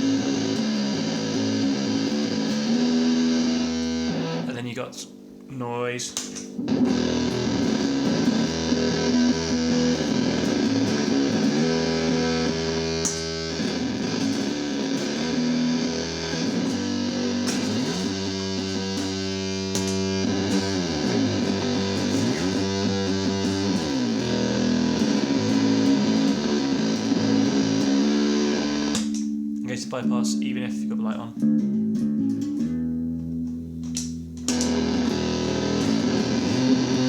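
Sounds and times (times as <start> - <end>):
distorted fuzz bass guitar: 0.0 - 37.0.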